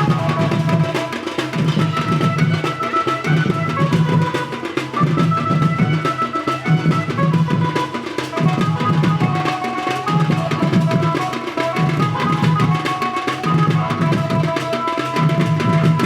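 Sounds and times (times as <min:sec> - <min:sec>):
hand drums beating: 0:00.0 - 0:16.0
wind instrument melody: 0:00.0 - 0:16.0.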